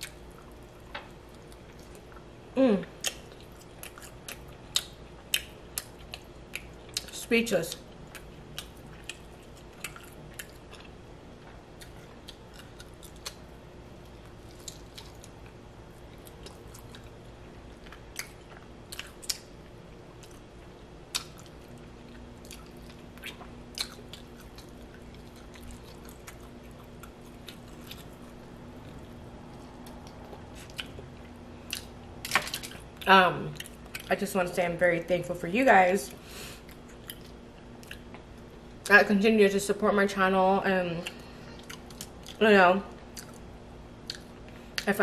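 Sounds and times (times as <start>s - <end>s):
faint steady hum: 0.0s - 45.0s
person chewing meat: 2.9s - 7.1s, 7.7s - 34.1s, 36.5s - 38.8s, 41.0s - 42.4s, 43.0s - 44.8s.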